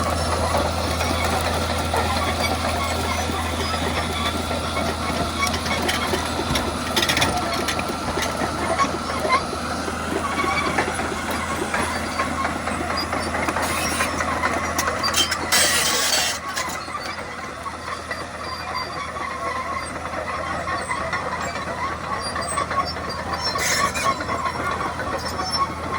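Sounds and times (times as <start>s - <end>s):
bulldozer diesel engine: 0.0s - 25.9s
steel tracks clattering and squealing: 0.0s - 25.9s.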